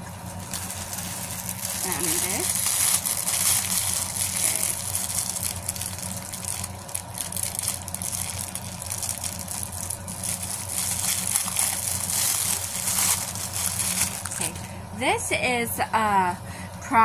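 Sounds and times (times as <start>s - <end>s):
plastic packaging crinkling: 0.0s - 14.7s.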